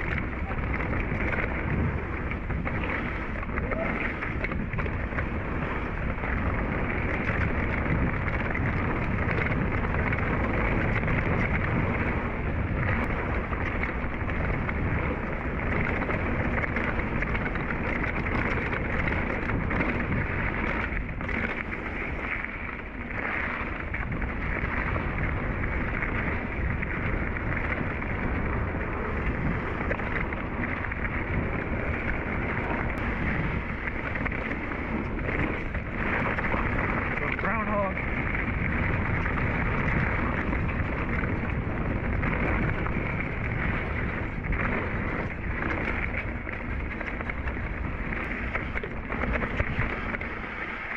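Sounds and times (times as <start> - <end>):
bike tyres rolling on dirt: 0.0 - 50.9
wind rushing over microphone: 0.0 - 50.9.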